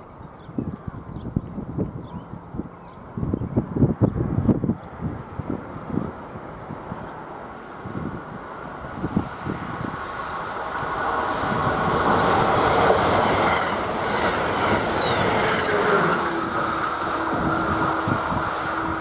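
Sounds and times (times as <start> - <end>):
train passing at speed: 1.3 - 19.0.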